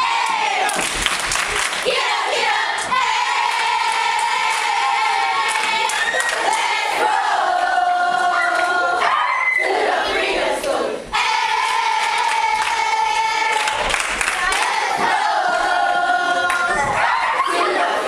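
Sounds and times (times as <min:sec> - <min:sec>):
children and adults chanting in unison: 0:00.0 - 0:01.0, 0:01.6 - 0:18.0.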